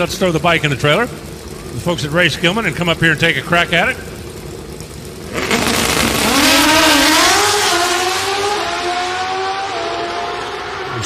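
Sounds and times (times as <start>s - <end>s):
motorcycles launching at full throttle: 0.0s - 11.0s.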